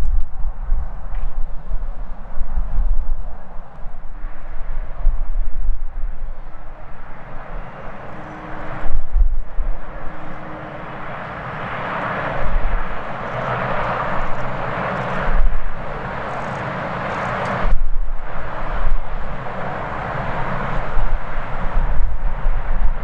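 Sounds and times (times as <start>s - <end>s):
wind buffeting microphone: 0.0s - 23.0s
jet engines roaring: 3.3s - 23.0s.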